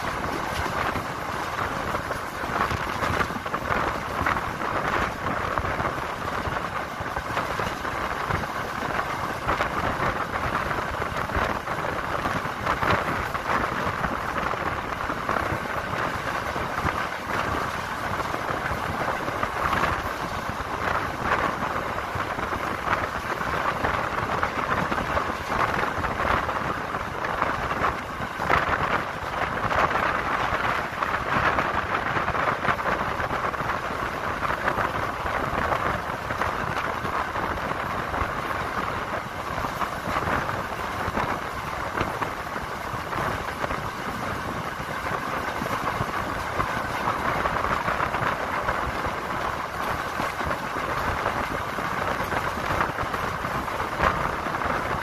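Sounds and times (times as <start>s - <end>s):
train rattling: 0.0s - 55.0s
train wheels on rails: 0.0s - 55.0s.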